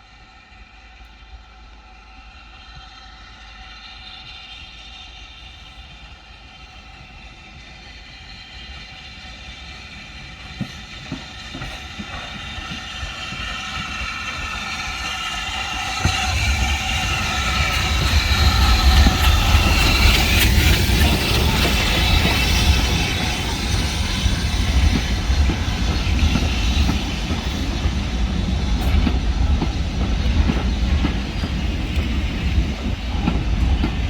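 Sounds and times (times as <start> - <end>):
train arriving: 0.0 - 34.0.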